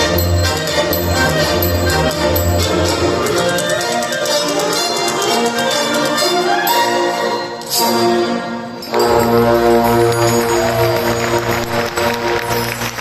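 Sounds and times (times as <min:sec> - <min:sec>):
concert wind band playing: 0:00.0 - 0:13.0.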